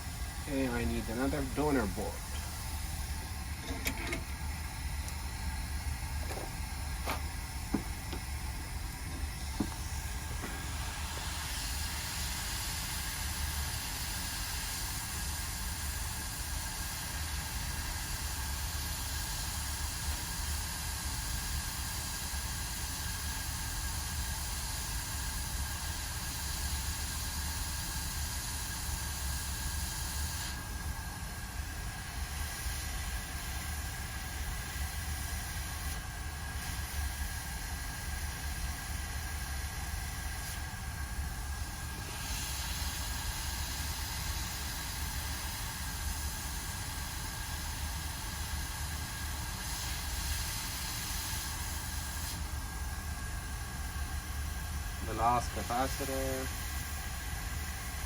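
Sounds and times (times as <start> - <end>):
hiss of blowing air: 0.0 - 58.0.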